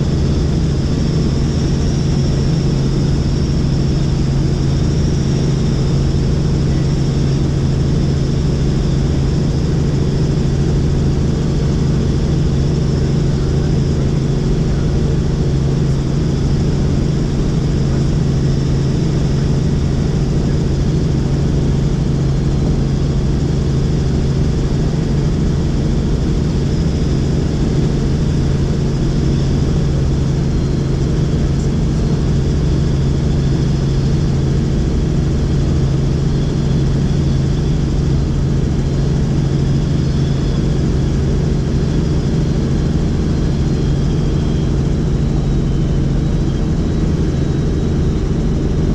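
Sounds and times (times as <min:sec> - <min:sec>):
helicopter rotor and engine hum: 0:00.0 - 0:48.9.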